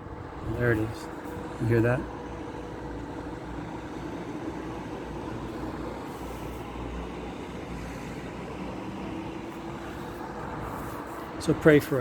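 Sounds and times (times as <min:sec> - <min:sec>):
city street traffic: 0:00.0 - 0:12.0
distant air raid siren: 0:00.0 - 0:12.0.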